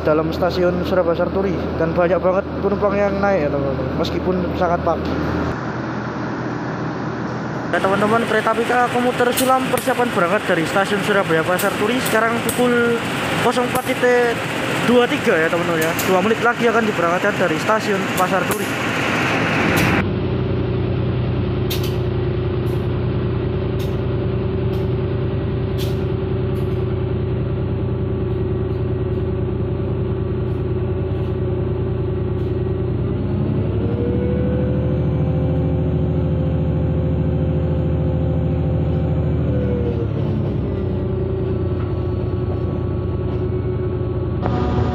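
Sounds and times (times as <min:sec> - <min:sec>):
diesel railcar engine running: 0:00.0 - 0:44.9
engine whine: 0:00.0 - 0:44.9.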